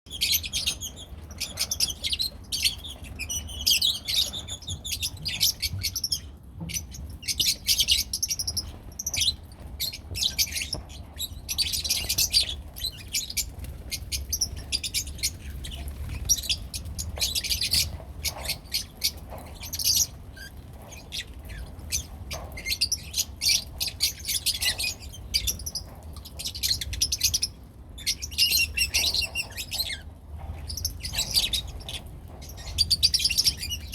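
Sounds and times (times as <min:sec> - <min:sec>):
birds chirping and tweeting: 0:00.1 - 0:33.9.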